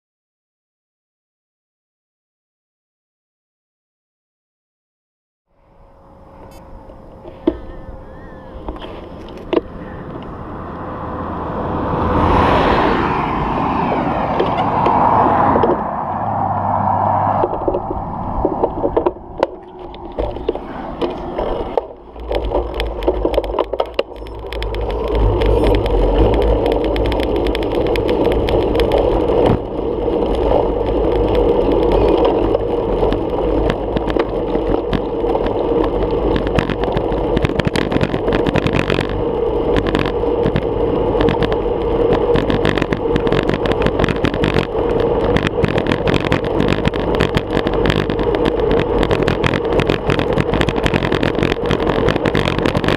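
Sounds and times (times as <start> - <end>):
bicycle road rumble: 5.5 - 52.9
wind rushing over camera: 6.4 - 52.9.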